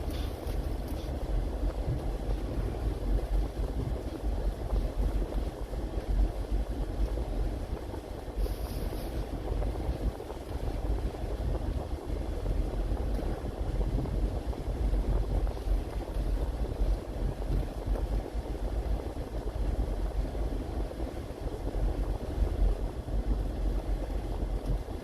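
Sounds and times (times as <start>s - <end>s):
car driving on wet road: 0.0s - 25.0s.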